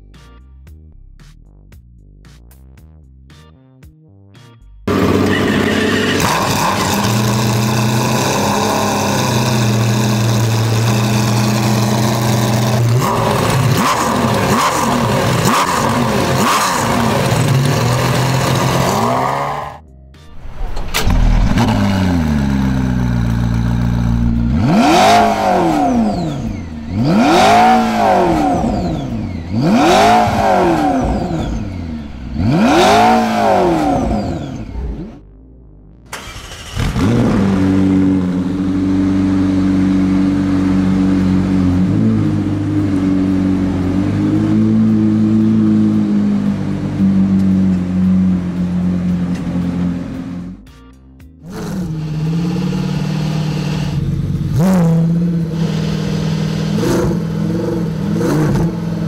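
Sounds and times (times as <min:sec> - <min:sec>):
sports car engine idling and blipped: 0:04.4 - 0:59.0
race car engine revving: 0:04.9 - 0:35.2, 0:36.1 - 0:50.6, 0:51.4 - 0:59.0.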